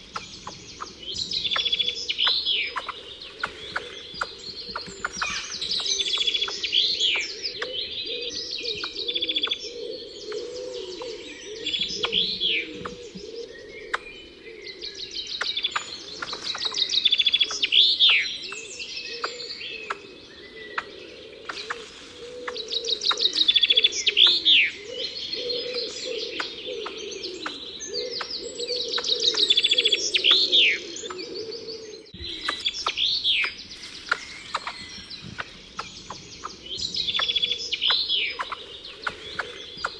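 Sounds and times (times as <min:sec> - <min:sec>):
other birds calling: 0:00.0 - 0:39.9
songbird trilling: 0:00.0 - 0:39.9.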